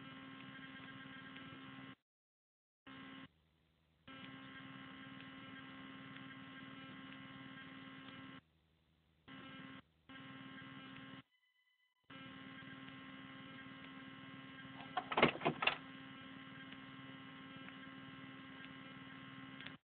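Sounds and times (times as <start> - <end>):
electrical hum: 2.9 - 11.3, 11.9 - 19.8.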